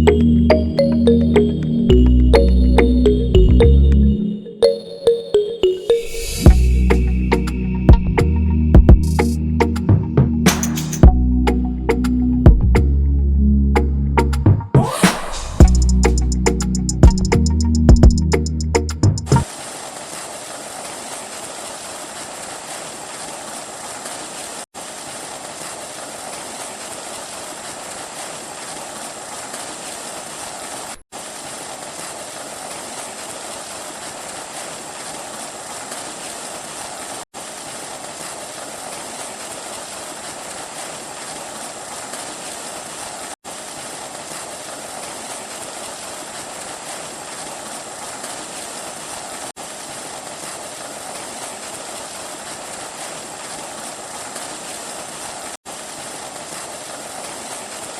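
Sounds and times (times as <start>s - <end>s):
water flowing: 0.0s - 12.1s, 14.8s - 57.9s.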